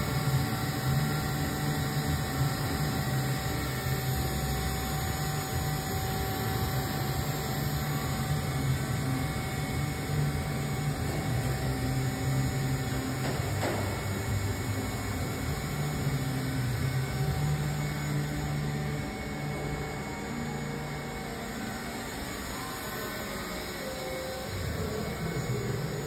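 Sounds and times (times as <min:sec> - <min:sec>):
machine humming with high tone: 0:00.0 - 0:26.0.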